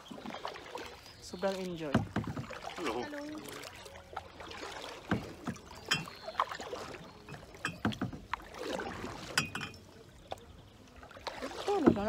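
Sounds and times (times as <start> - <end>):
paddle strokes through water: 0.0 - 12.0
small splashes: 0.0 - 12.0.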